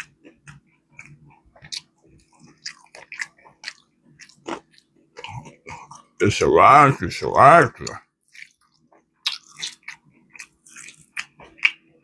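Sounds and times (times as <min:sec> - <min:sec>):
person chewing crunchy food: 0:00.0 - 0:06.2, 0:07.8 - 0:12.0.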